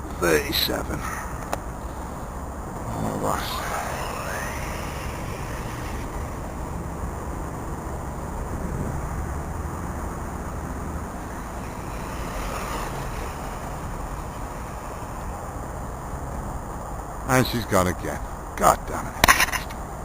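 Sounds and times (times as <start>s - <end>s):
low rumbling noise: 0.0s - 19.2s.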